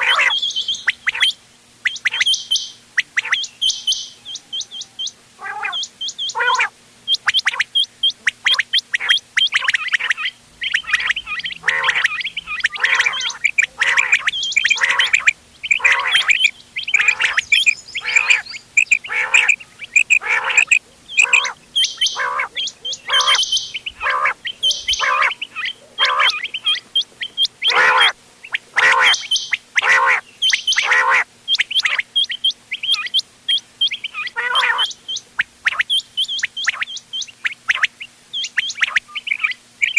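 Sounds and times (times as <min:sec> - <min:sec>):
faint steady hum: 0:00.0 - 0:39.9
quail calling: 0:00.0 - 0:39.9.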